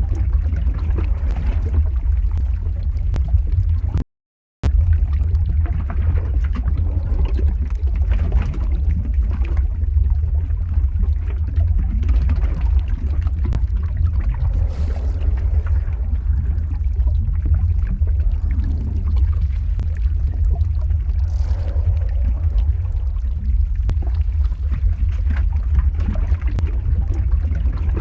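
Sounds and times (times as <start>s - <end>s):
deep rumble with light crackle: 0.0s - 4.0s, 4.6s - 28.0s.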